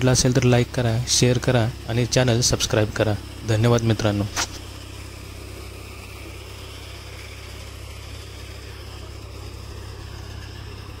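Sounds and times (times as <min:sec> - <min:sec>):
threshing machine hiss: 0:00.0 - 0:11.0
tractor diesel engine droning: 0:00.0 - 0:11.0.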